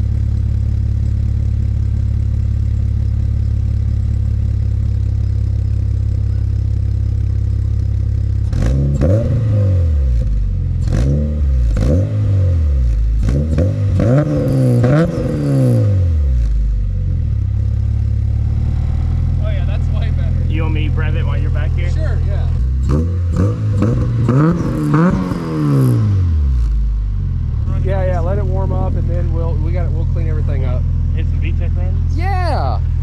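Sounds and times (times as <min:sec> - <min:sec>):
car engine idling: 0:00.0 - 0:33.0
car engine revving: 0:00.0 - 0:33.0.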